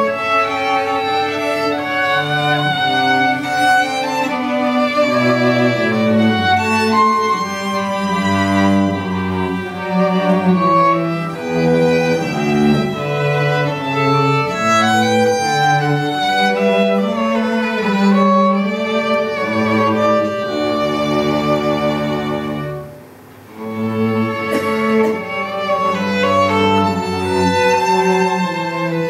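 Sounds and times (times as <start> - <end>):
string trio playing: 0.0 - 29.0.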